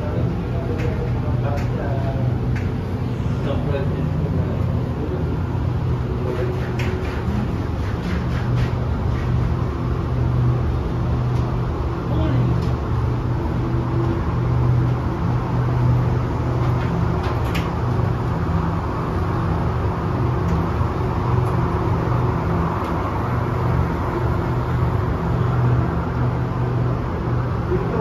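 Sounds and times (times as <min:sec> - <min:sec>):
people mover low hum: 0:00.0 - 0:28.0.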